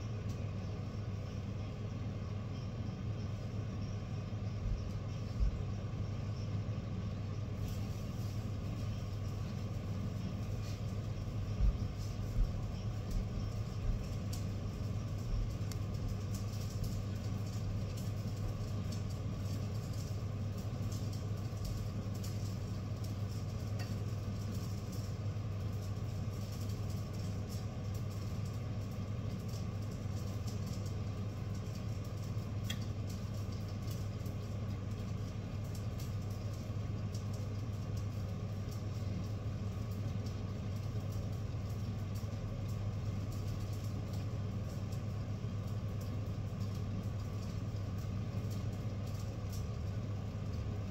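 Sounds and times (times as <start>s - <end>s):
low machine hum: 0.0s - 50.9s
faint crackles: 0.1s - 50.9s.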